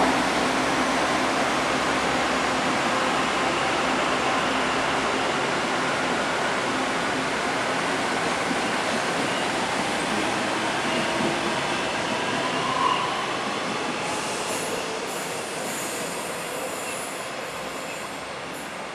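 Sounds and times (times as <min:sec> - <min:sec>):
electric train running past: 0:00.0 - 0:18.9.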